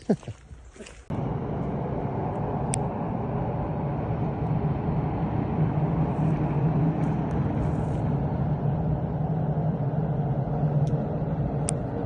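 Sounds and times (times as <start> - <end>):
motorcycle engine hum: 0.5 - 12.0
road and wind noise: 0.8 - 12.0.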